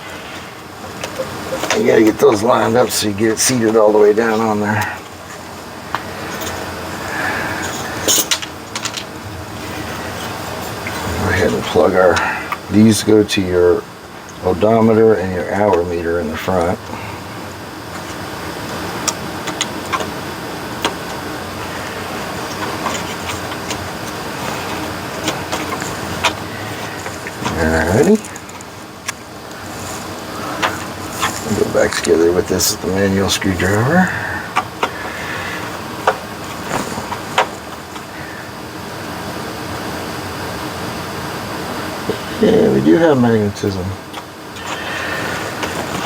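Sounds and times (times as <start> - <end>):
steady background hiss: 0.0 - 46.0
steady low hum: 0.0 - 46.0.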